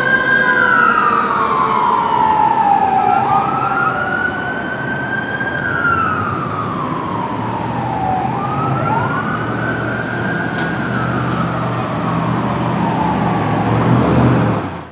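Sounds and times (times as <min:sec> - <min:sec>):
fire sirens wailing: 0:00.0 - 0:14.9.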